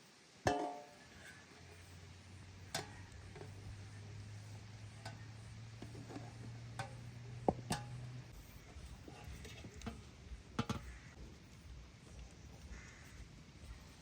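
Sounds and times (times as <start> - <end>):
low steady hum: 0.2 - 14.0.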